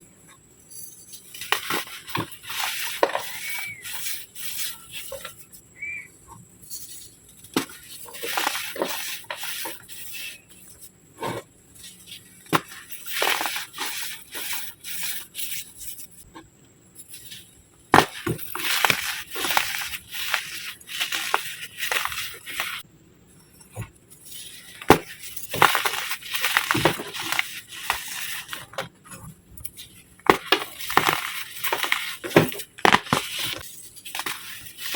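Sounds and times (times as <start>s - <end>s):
baking soda crunching and crumbling: 1.2s - 6.1s, 6.7s - 16.2s, 17.1s - 22.8s, 23.7s - 34.9s.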